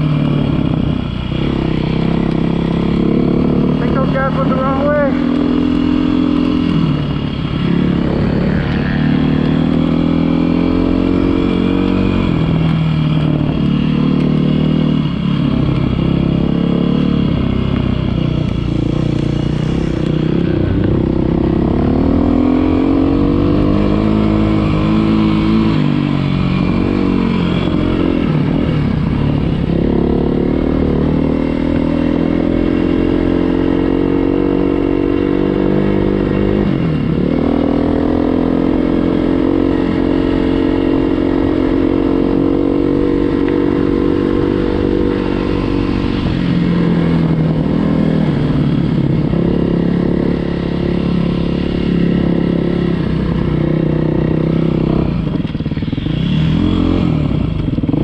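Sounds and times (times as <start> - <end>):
dirt bike engine revving: 1.3 - 58.0.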